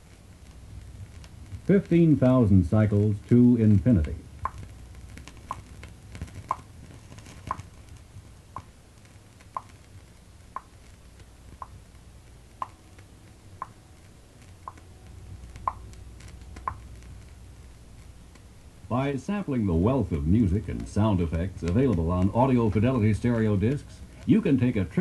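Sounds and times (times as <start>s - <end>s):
low hum: 0.0s - 25.0s
soft regular ticking: 0.1s - 18.5s, 20.2s - 25.0s.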